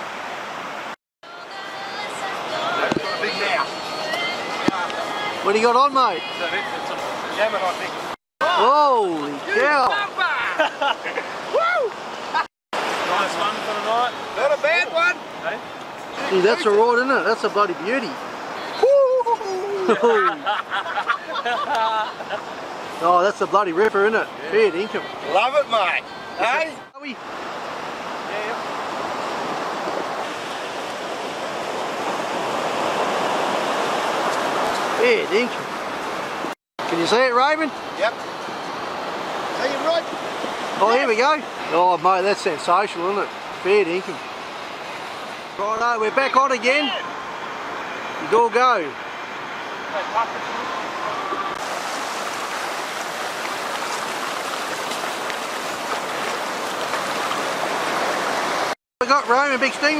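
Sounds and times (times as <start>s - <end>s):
surf washing onto sandy beach: 0.0s - 59.9s.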